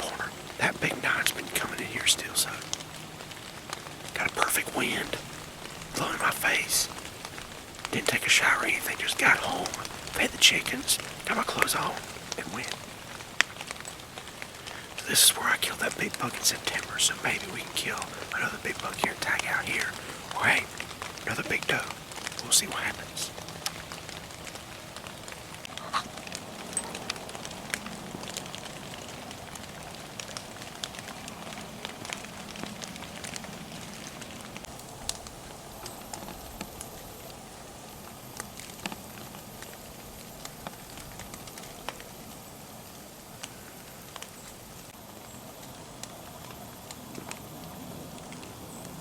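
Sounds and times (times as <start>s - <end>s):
steady soft hiss: 0.0s - 49.0s.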